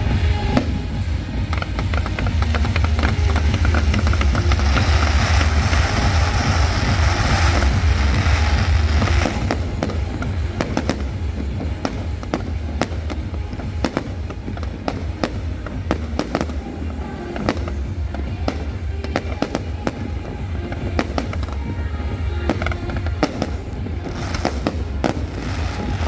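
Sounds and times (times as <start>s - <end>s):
fireworks hissing crackle: 0.0s - 26.0s
fireworks shells bursting: 0.3s - 21.7s
firework pops and cracks: 1.5s - 21.6s, 22.5s - 26.0s.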